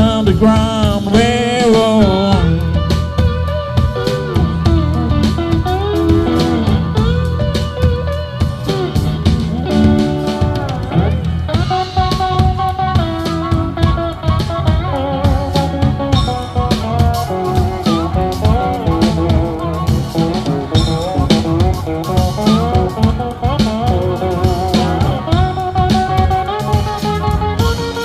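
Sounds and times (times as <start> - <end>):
bass: 0.0 - 28.0
drum kit steady beat: 0.0 - 28.0
lead guitar with bending notes: 0.0 - 28.0.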